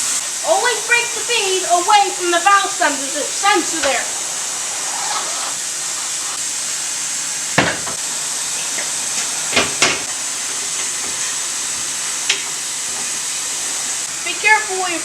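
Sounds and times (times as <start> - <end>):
air hissing: 0.0 - 15.0.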